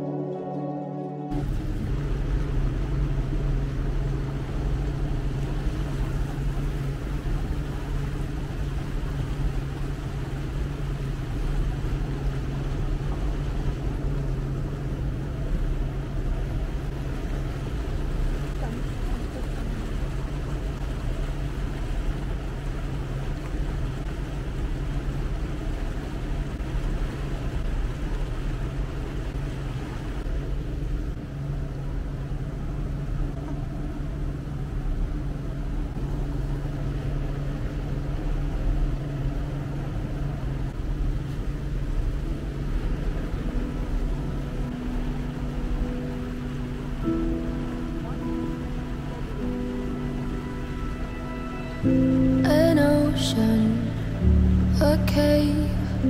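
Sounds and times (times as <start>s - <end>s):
wind and water rushing: 0.0s - 56.0s.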